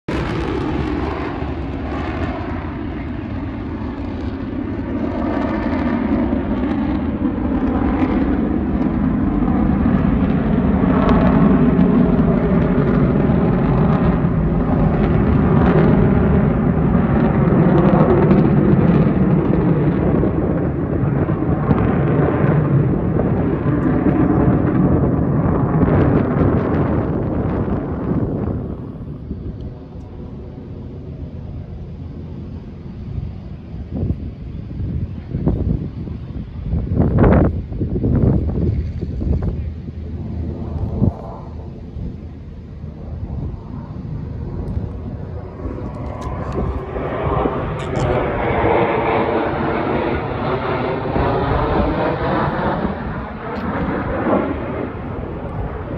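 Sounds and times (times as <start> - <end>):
jet engines roaring overhead: 0.0 - 55.9.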